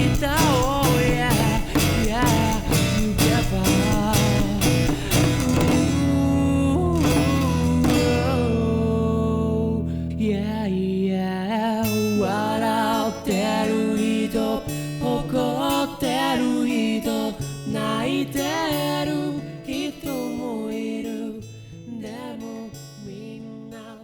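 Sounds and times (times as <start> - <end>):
pop song with acoustic guitar: 0.0 - 24.0.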